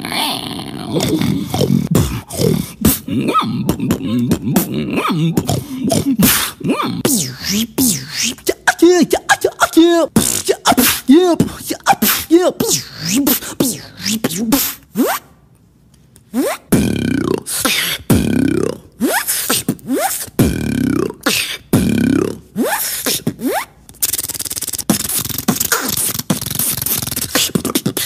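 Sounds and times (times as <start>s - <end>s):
beatboxing swooping bursts: 0.9s - 15.4s, 16.2s - 28.0s
beatboxing rattling buzz: 1.0s - 15.3s, 16.3s - 28.0s.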